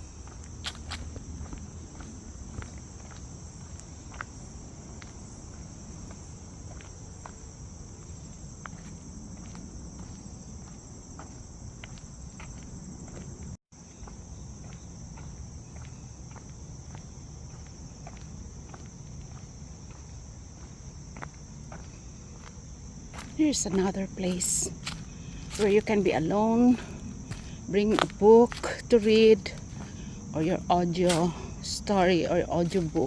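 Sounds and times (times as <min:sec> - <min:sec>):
footsteps on trail: 0:00.0 - 0:33.0
insects chorus: 0:00.0 - 0:33.0.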